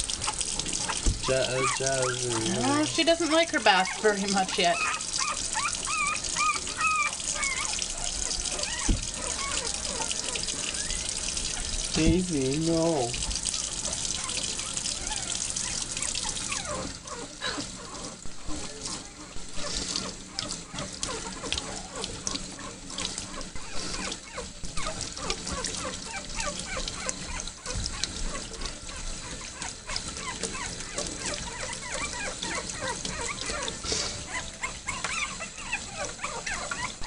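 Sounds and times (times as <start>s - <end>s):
puppies whining and squealing: 0.2s - 37.0s.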